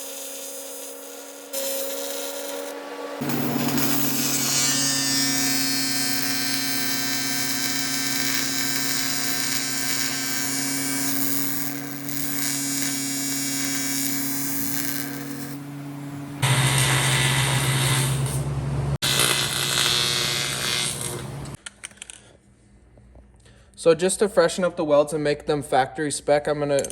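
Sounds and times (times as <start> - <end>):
power tool running: 0.0 - 21.6.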